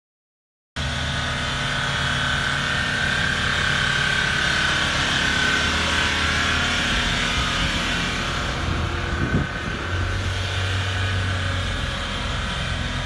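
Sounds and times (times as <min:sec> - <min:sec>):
car engine hum: 0:00.8 - 0:13.0
road rumble: 0:00.8 - 0:13.0.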